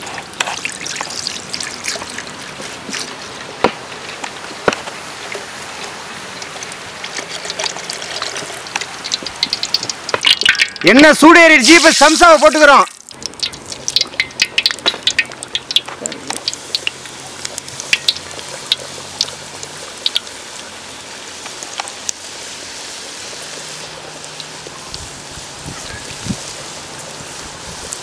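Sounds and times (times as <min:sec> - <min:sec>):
food sizzling in hot oil: 0:00.0 - 0:28.0
oil popping and crackling: 0:00.0 - 0:28.0.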